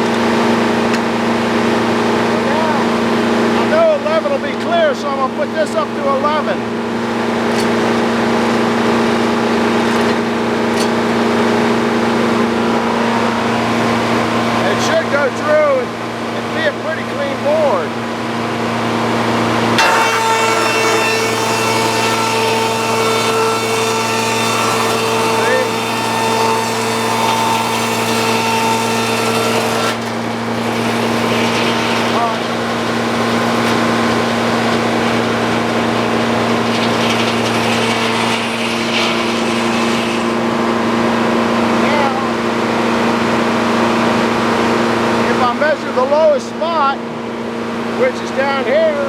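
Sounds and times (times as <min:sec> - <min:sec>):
saw blade cutting log: 0:00.0 - 0:43.4
sawmill drone: 0:00.0 - 0:49.0.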